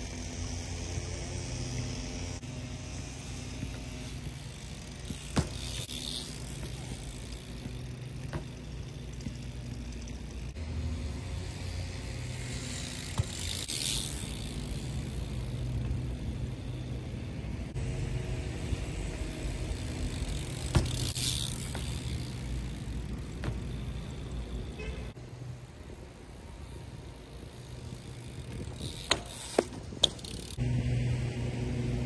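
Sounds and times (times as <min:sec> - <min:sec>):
bike tyres rumbling on ground: 0:00.0 - 0:25.2, 0:26.1 - 0:30.6
bike clicks and knocks: 0:01.6 - 0:25.2, 0:26.6 - 0:30.6.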